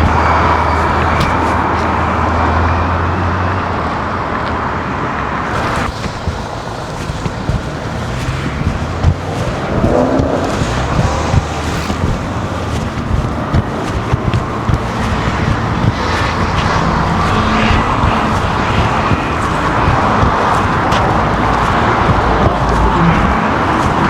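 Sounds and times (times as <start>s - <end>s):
wind buffeting microphone: 0.0s - 2.6s, 5.4s - 24.0s
low engine hum: 0.0s - 3.6s, 5.4s - 24.0s
road traffic noise: 0.0s - 24.0s.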